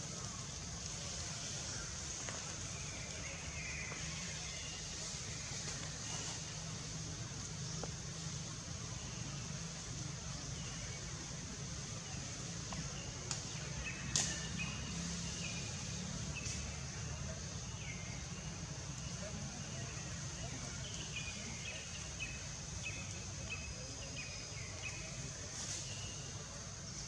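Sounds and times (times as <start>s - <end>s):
steady high-pitched hiss: 0.0s - 27.0s.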